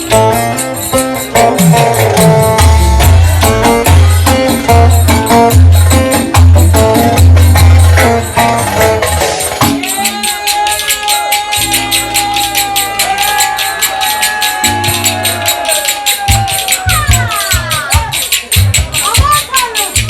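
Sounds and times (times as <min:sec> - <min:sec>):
pulsing bass beat: 0:00.0 - 0:10.1, 0:11.5 - 0:20.0
metal jingles struck rhythmically: 0:00.0 - 0:20.0.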